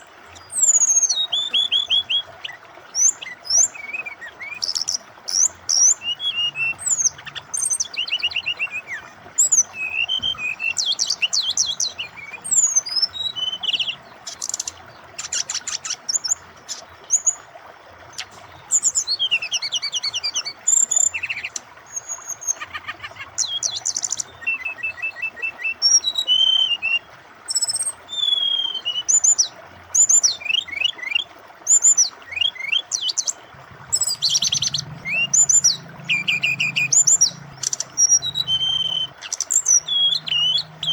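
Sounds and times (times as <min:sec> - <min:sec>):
bird singing varied song: 0:00.0 - 0:40.9
flowing water: 0:00.0 - 0:40.9.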